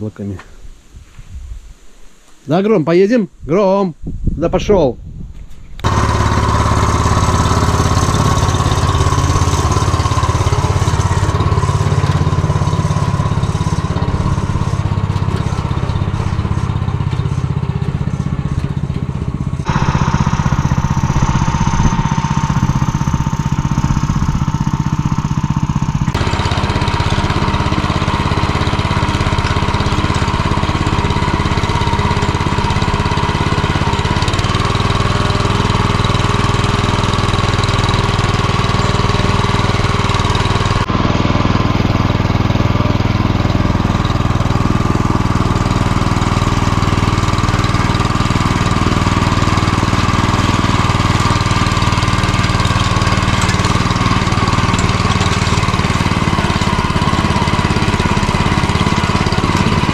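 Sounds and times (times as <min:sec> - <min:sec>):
walk-behind tractor engine running: 0:05.8 - 0:59.9.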